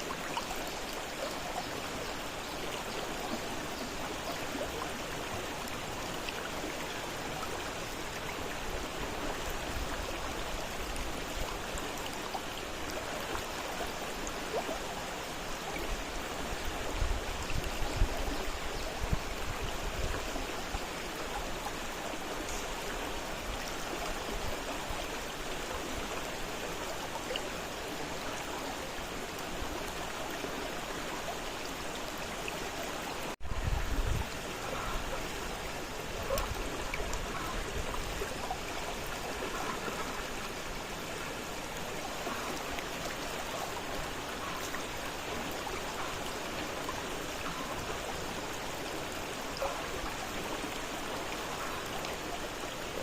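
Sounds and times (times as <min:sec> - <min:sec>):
fast-flowing river: 0:00.0 - 0:53.0.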